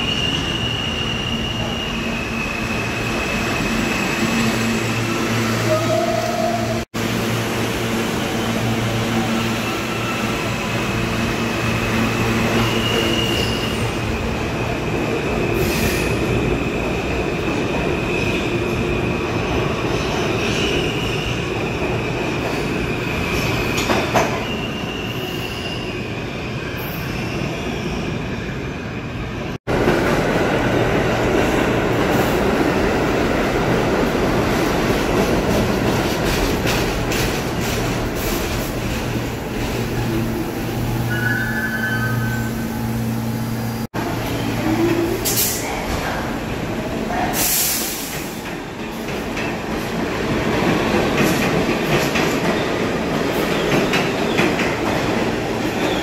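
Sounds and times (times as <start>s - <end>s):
subway train electric hum: 0.0s - 56.0s
subway train passing: 0.0s - 56.0s.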